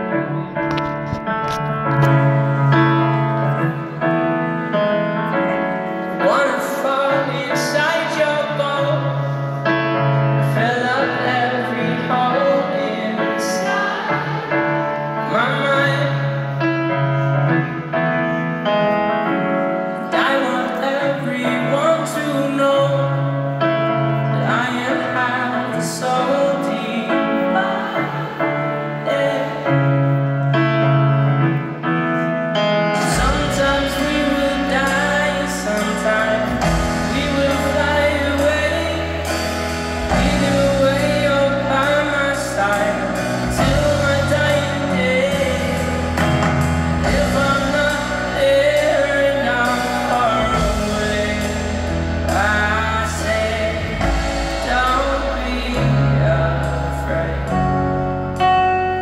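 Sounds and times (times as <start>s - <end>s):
person singing: 0.0s - 59.0s
piano chords over loudspeakers: 0.0s - 59.0s.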